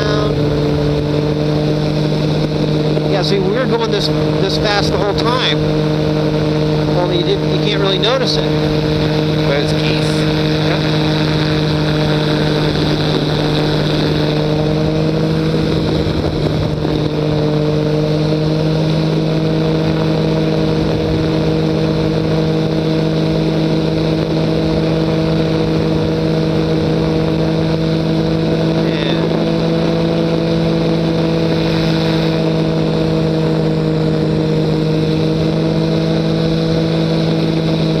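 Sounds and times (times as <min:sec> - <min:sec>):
ultralight engine and propeller drone: 0:00.0 - 0:38.0.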